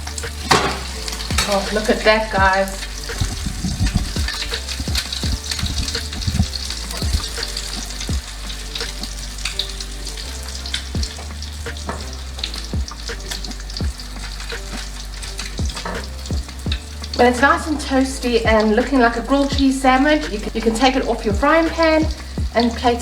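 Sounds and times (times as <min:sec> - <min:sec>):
sandwich sizzling in a frying pan: 0:00.0 - 0:23.0.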